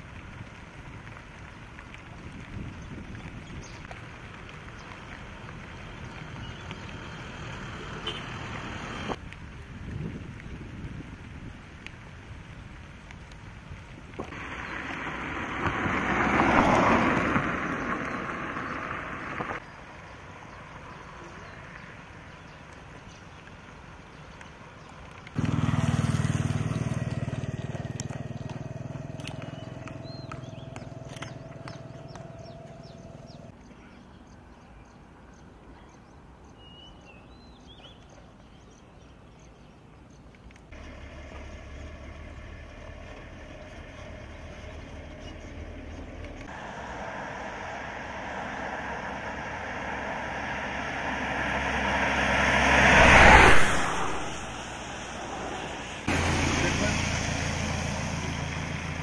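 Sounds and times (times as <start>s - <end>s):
vehicles passing on a road: 0.0s - 59.0s.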